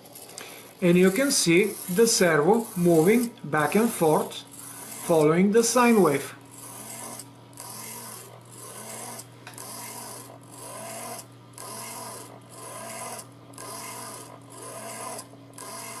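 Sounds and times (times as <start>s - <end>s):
servo motor whirring: 0.0s - 16.0s.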